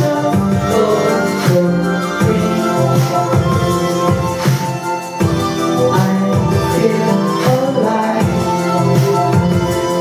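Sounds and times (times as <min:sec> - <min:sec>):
steady beat: 0:00.0 - 0:10.0
stepping bass line: 0:00.0 - 0:10.0.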